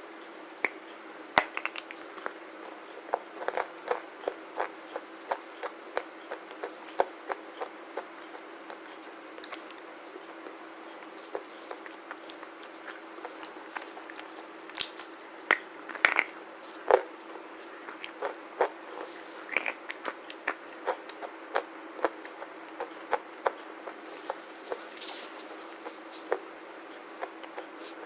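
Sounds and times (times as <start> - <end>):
dry crunching chewing: 0.7 - 28.0.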